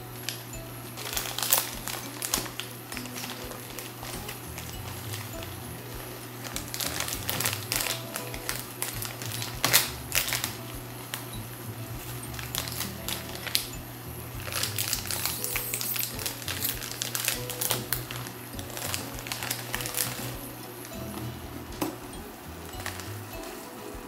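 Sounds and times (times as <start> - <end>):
plastic packet crinkling: 0.2 - 11.3, 12.3 - 13.7, 14.4 - 20.9, 22.7 - 23.6.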